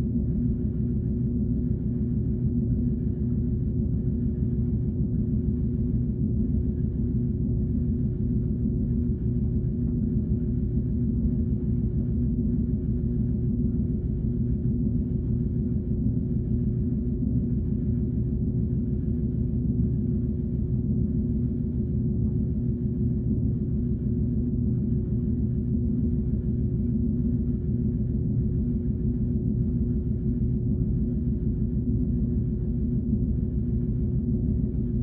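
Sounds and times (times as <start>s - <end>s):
faint pulsing flutter: 0.0s - 35.0s.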